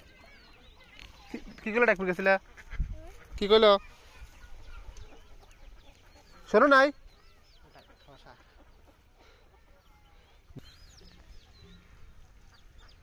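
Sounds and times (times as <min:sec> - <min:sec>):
faint riverside ambience: 0:00.0 - 0:13.0
small birds chirping: 0:00.0 - 0:13.0.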